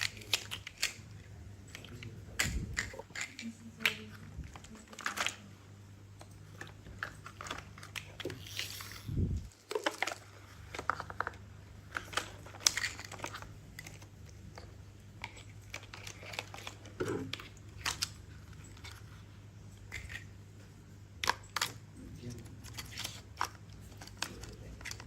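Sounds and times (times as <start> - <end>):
small toys clicking and rustling: 0.0 - 20.5, 21.1 - 25.0
steady low hum: 0.0 - 25.0.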